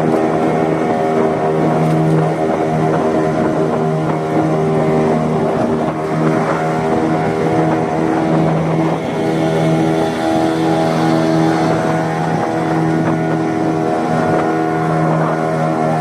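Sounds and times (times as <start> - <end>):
boat engine running steadily: 0.0 - 16.0.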